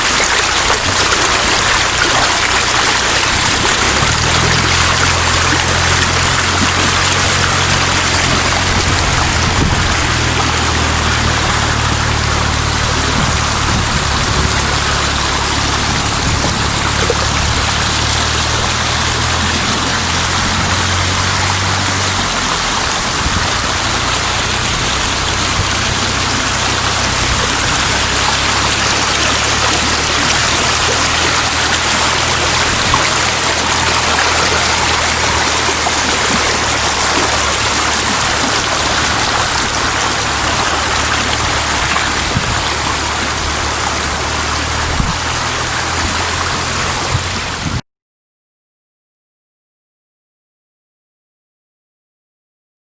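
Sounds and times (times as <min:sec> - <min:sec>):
low hum: 0:00.0 - 0:47.8
water rushing over rocks: 0:00.0 - 0:47.8.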